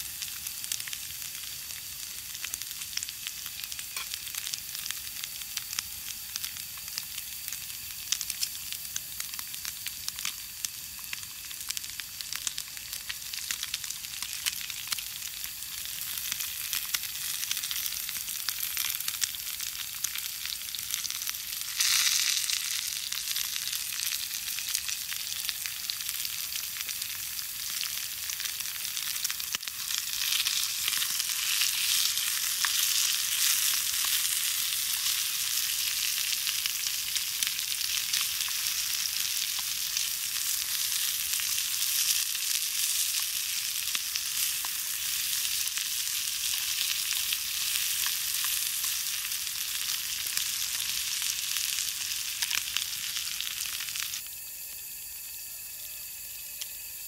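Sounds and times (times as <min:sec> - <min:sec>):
meat sizzling in a frying pan: 0:00.0 - 0:57.0
small pops from the pan: 0:00.2 - 0:54.2.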